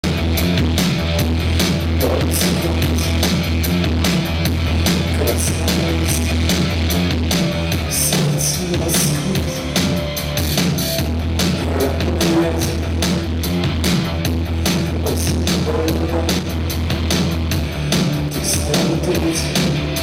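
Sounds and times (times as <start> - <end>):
loud live rock band: 0.0 - 20.0.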